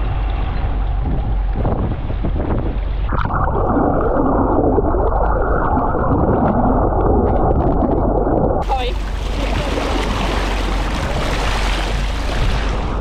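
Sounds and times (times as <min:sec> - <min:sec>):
muffled underwater rushing water: 0:00.0 - 0:13.0
water washing along hull: 0:00.0 - 0:13.0
wind on microphone: 0:00.0 - 0:13.0.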